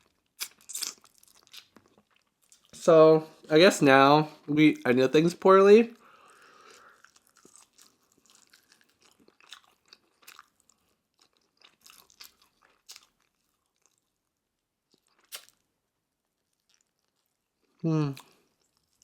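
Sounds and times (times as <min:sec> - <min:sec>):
chewing crispy fried chicken: 0:00.0 - 0:02.8, 0:06.0 - 0:19.0.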